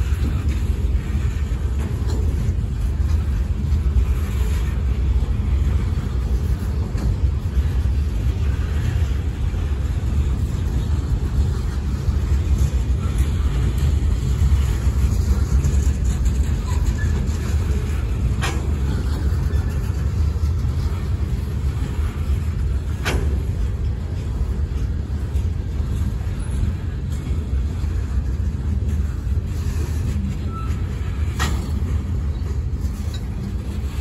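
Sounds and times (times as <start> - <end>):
freight train rolling past: 0.0 - 34.0.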